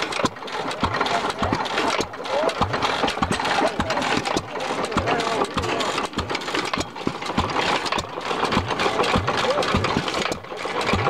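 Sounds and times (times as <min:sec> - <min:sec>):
single-cylinder engine knocking: 0:00.0 - 0:11.0.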